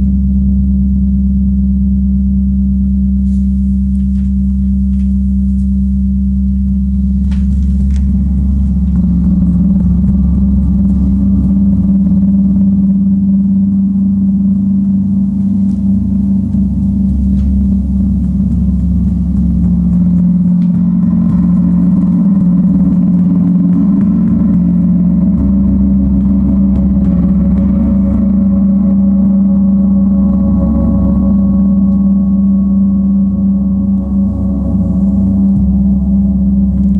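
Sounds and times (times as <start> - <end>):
deep gong drone: 3.8 - 36.9.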